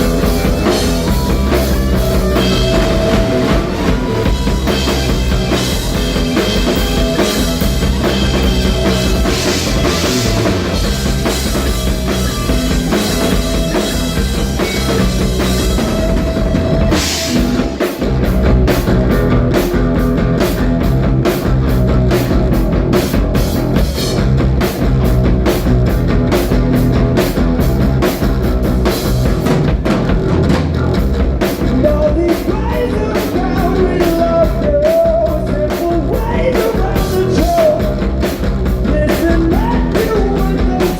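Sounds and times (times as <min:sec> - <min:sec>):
drum kit beat: 0:00.0 - 0:40.9
rock band playing live: 0:00.0 - 0:40.9.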